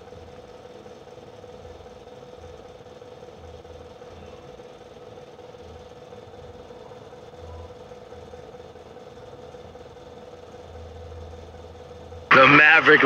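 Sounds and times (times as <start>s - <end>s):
faint constant whine: 0.0s - 13.0s.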